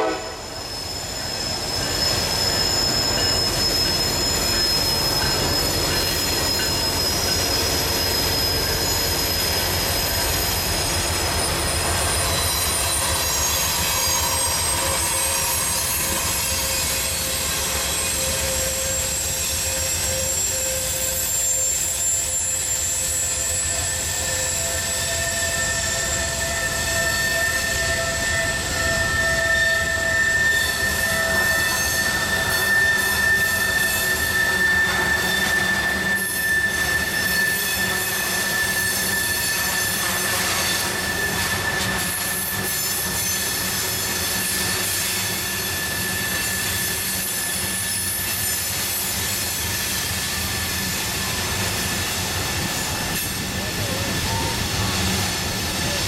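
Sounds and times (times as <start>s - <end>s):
rumble of wheels on track: 0.0s - 56.0s
wheel flanges squealing on rail: 0.0s - 56.0s.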